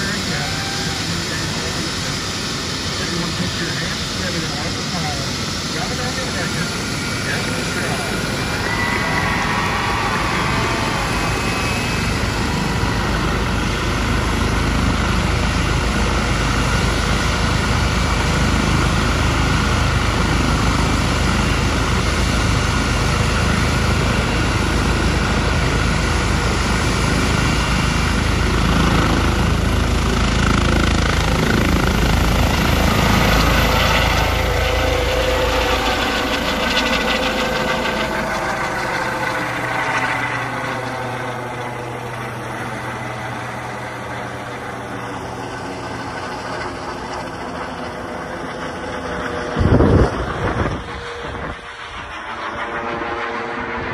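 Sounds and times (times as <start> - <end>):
helicopter rotor thrum: 0.0 - 53.9
turbine whine: 0.0 - 53.9.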